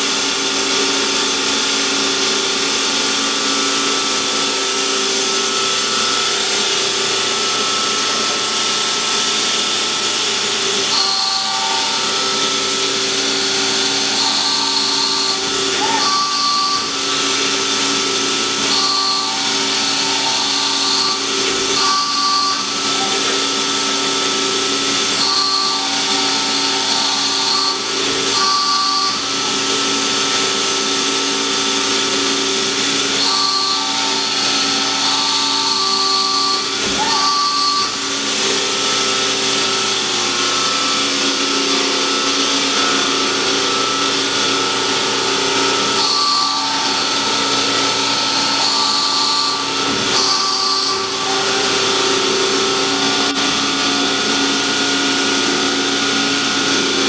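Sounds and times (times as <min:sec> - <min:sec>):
hydraulic pump humming: 0:00.0 - 0:57.0
machine axes whining: 0:00.0 - 0:57.0.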